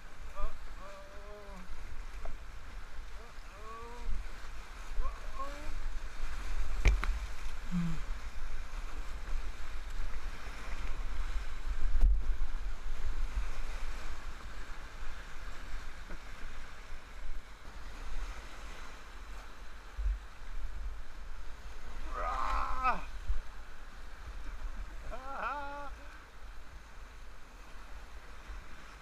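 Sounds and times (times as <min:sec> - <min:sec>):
muffled whitewater rushing: 0:00.0 - 0:29.0.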